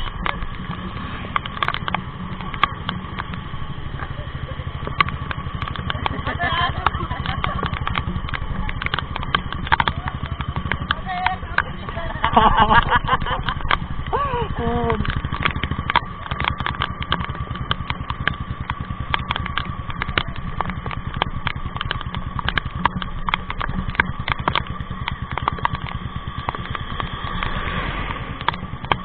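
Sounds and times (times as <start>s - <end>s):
motorcycle engines running: 0.0s - 29.0s
sharp clicks and ticks: 0.0s - 29.0s.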